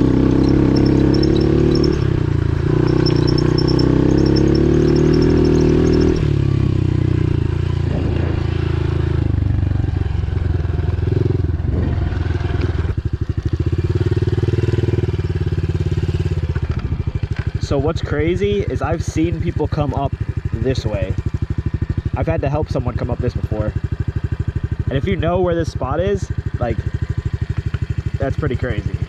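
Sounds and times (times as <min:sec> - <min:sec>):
motorbike engine revving and idling: 0:00.0 - 0:29.0.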